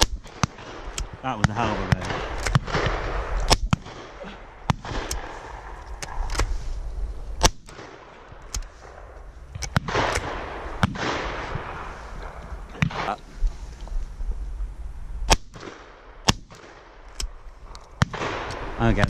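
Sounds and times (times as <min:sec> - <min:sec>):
shotguns firing: 0:00.0 - 0:06.5, 0:07.4 - 0:13.2, 0:15.3 - 0:17.3, 0:17.9 - 0:19.0.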